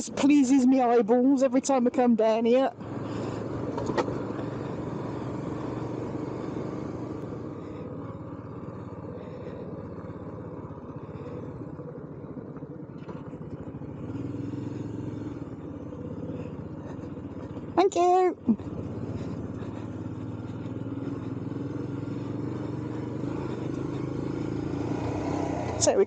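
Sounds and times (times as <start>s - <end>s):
motorcycle engine running: 0.0s - 26.0s
wind: 0.0s - 26.0s.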